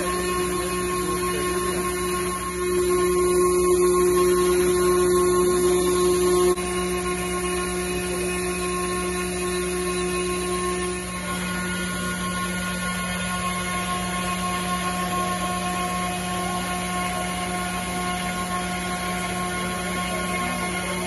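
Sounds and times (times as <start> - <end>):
router spindle cutting: 0.0 - 21.0
whining tones: 0.0 - 21.0.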